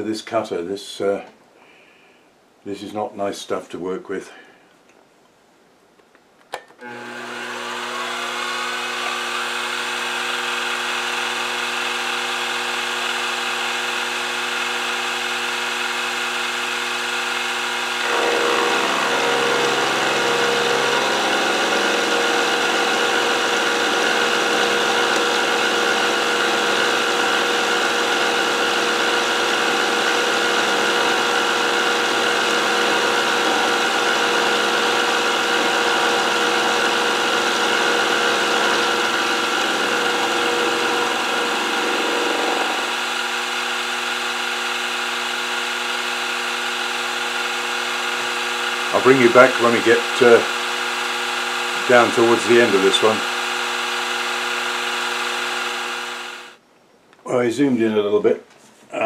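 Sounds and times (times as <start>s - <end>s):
end mill cutting metal: 6.8s - 56.6s
milling machine motor whine: 6.8s - 56.6s.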